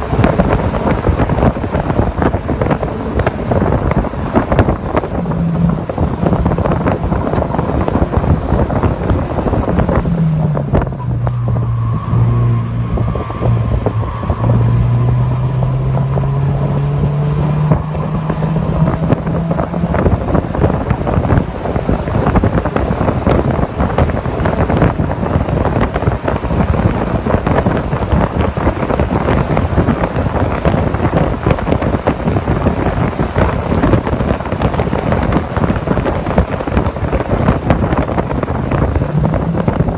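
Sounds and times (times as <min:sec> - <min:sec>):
car engine accelerating: 0:00.0 - 0:39.9
wind buffeting microphone: 0:00.0 - 0:39.9.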